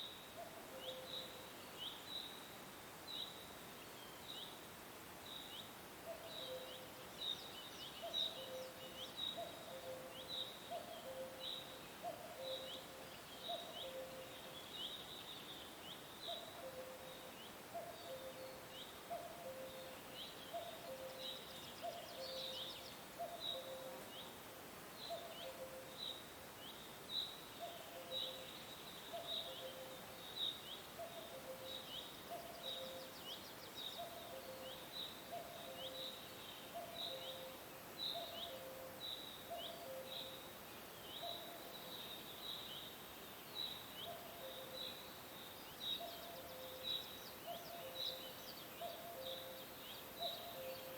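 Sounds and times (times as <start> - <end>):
faint steady hiss: 0.0 - 50.9.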